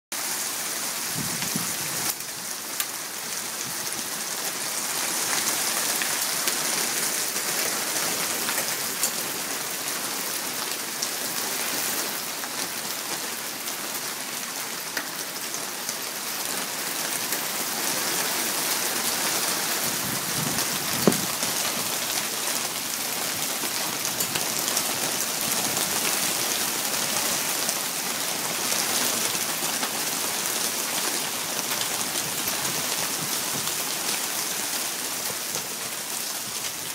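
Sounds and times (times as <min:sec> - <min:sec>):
hail falling: 0:01.1 - 0:36.9.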